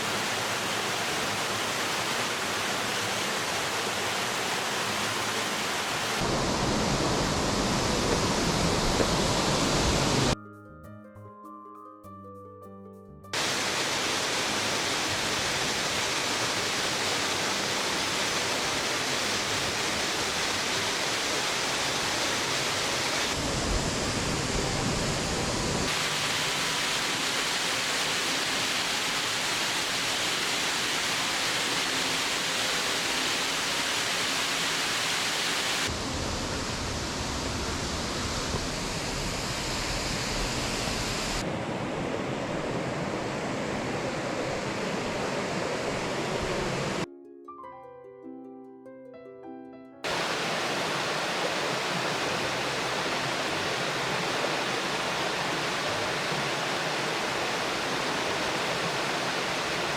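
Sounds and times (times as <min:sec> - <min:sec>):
waterfall and stream rushing: 0:00.0 - 0:10.4, 0:13.4 - 0:47.1, 0:50.0 - 0:59.9.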